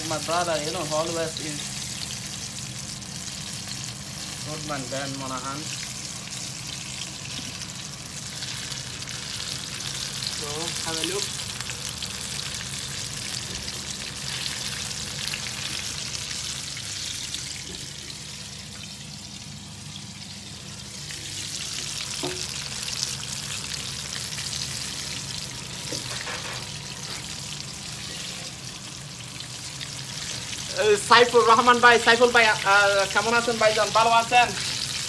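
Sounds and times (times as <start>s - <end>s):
chicken deep-frying in hot oil: 0.0s - 35.0s.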